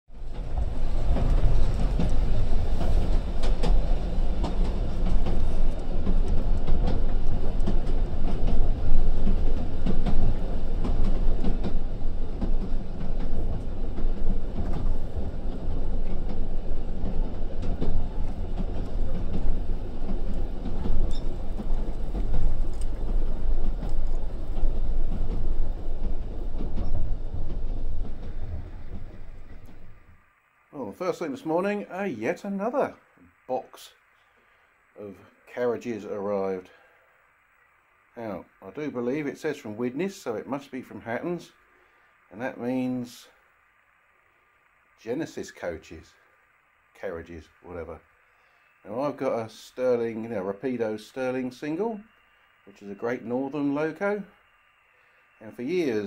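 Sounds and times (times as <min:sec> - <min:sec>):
wheels clicking on track: 0:00.1 - 0:34.2, 0:37.5 - 0:56.0
train rumbling on rails: 0:00.1 - 0:56.0.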